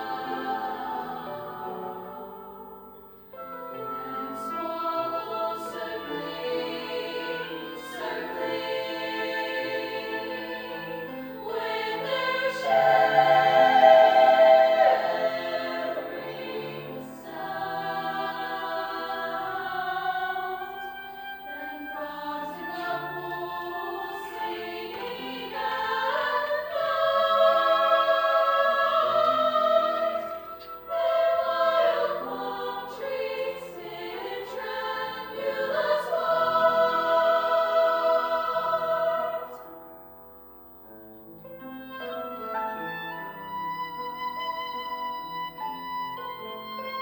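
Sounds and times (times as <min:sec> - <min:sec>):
choir singing sustained chords: 0:00.0 - 0:47.0.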